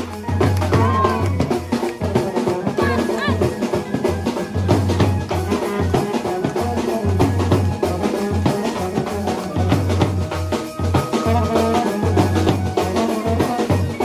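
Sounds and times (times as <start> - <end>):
brass band playing: 0.0 - 14.0
repeating drum beat: 0.0 - 14.0.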